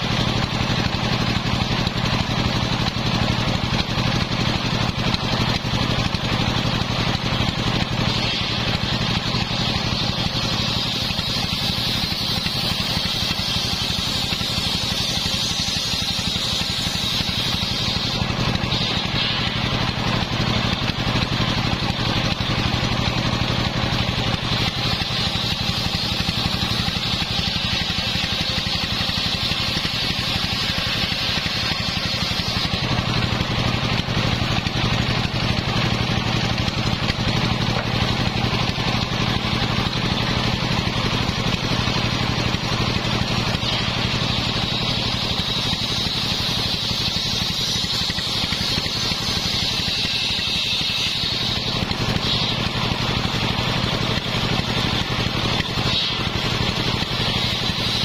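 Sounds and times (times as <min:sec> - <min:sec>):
saw blade cutting wood: 0:00.0 - 0:58.0
saw motor humming: 0:00.0 - 0:58.0.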